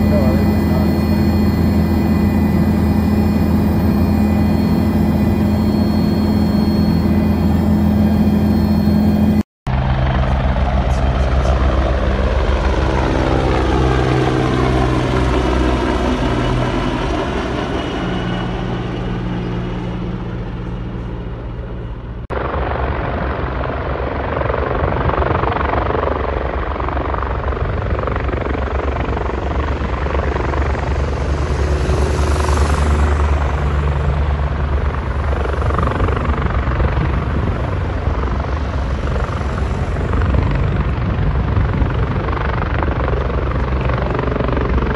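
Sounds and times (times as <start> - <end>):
helicopter flying past: 0.0 - 44.9
helicopter hovering and landing: 0.0 - 44.9.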